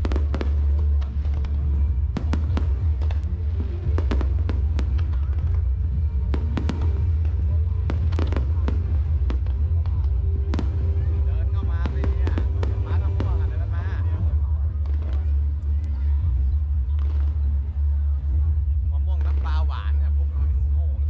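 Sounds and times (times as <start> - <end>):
fireworks bangs and crackles: 0.0 - 20.4
deep rumble: 0.0 - 21.0
music playing: 0.0 - 21.0.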